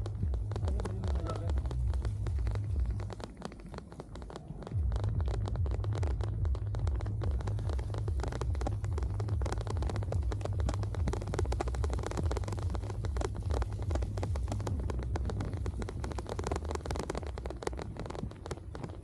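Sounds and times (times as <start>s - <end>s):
rain pattering on camera: 0.0s - 19.0s
wind on microphone: 0.0s - 19.0s.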